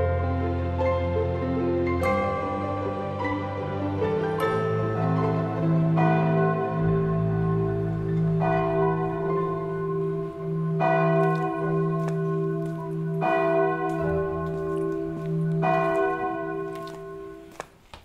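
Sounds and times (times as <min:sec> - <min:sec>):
church bell tolling: 0:02.0 - 0:17.6.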